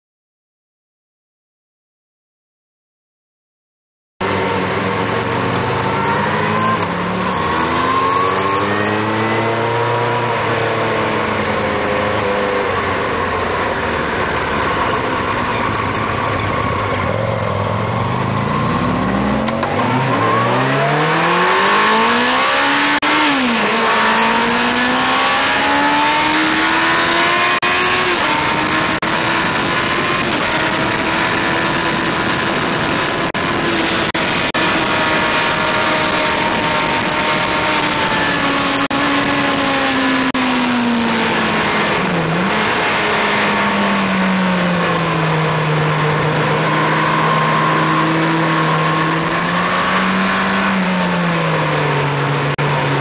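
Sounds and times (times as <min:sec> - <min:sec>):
motorcycle engine revving: 0:04.2 - 0:53.0
rushing wind: 0:04.2 - 0:53.0.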